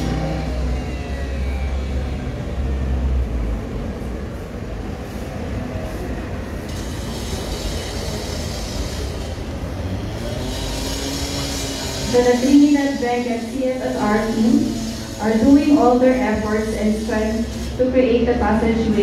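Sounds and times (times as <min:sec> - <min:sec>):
ambulance engine driving past: 0:00.0 - 0:19.0
steady outdoor rushing noise: 0:00.0 - 0:19.0.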